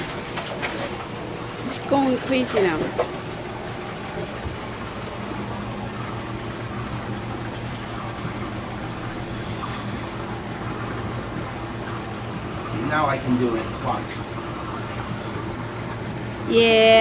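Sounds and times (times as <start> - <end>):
circulating water: 0.0 - 17.0
tank pumps humming: 0.0 - 17.0.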